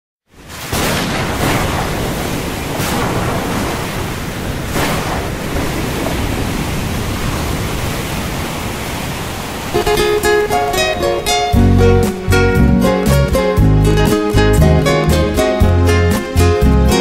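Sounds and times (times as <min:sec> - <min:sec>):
stormy waves: 0:00.3 - 0:17.0
wind rushing: 0:01.4 - 0:16.5.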